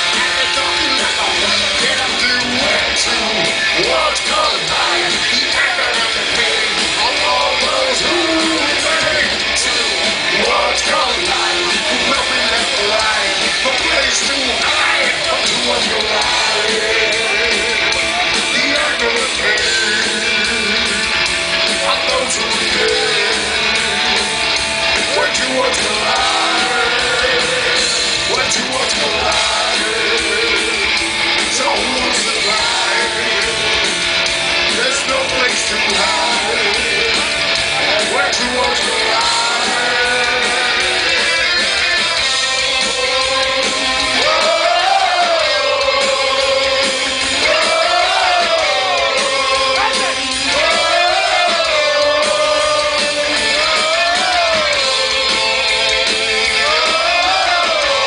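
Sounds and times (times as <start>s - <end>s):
person singing: 0.0s - 24.3s, 25.0s - 34.0s, 34.7s - 58.0s
heavy metal band playing live: 0.0s - 58.0s.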